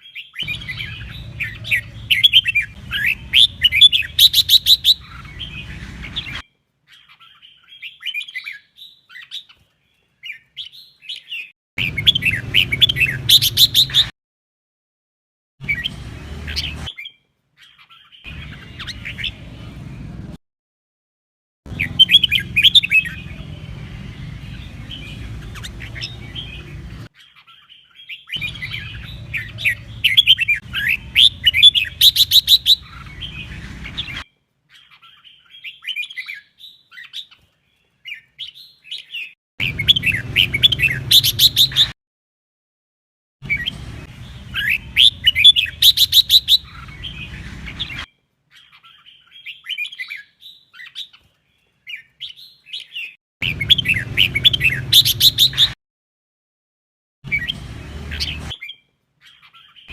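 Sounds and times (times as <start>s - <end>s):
bird chirping and warbling: 0.0s - 14.1s, 15.6s - 20.4s, 21.7s - 42.0s, 43.4s - 55.8s, 57.3s - 59.9s.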